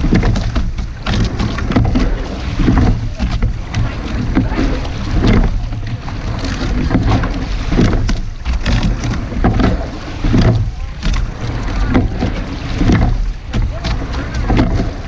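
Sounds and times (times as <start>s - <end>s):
oars clunking in strokes: 0.0s - 15.0s
water rushing along hull: 0.0s - 15.0s
wind rumble on microphone: 0.0s - 15.0s.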